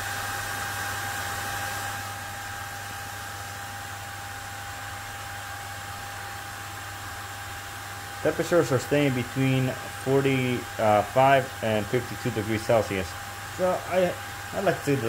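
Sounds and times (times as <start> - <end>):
small fan rushing with whine: 0.0 - 15.0.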